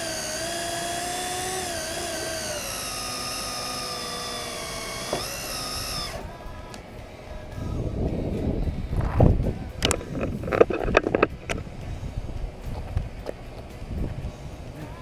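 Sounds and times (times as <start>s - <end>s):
electric motor high-pitched whine: 0.0s - 15.0s.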